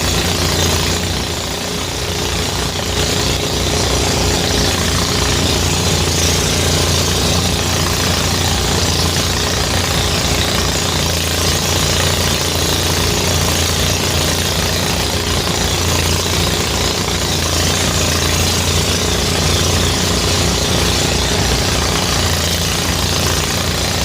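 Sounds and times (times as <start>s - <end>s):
thresher engine humming: 0.0s - 24.0s.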